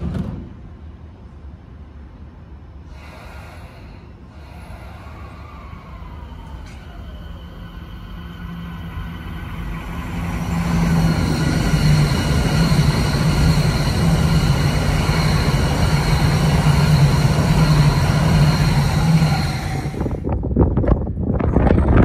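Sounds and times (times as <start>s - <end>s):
high-speed train rushing roar: 0.0s - 22.0s.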